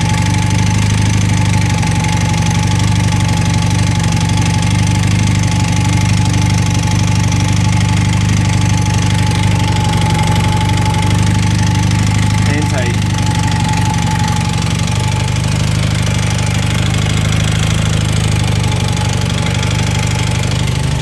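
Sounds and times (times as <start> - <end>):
motorcycle engine running steadily: 0.0 - 21.0.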